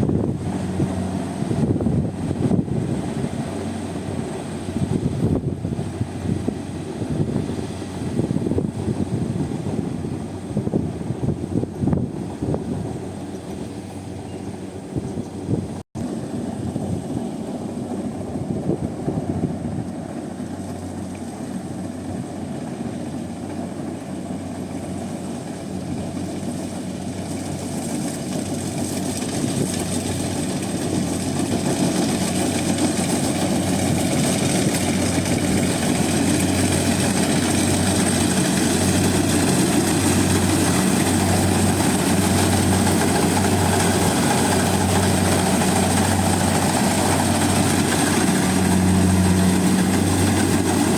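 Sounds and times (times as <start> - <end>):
combine harvester engine running: 0.0 - 11.3, 16.3 - 50.9.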